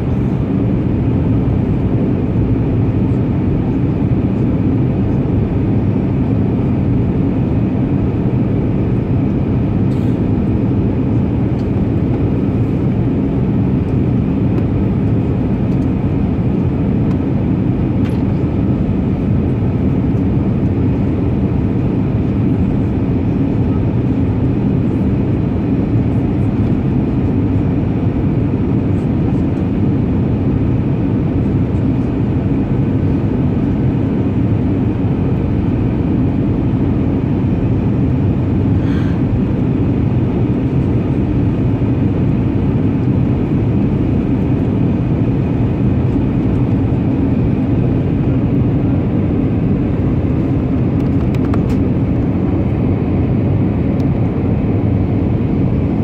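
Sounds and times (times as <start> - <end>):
airplane cabin engine hum: 0.0 - 56.0.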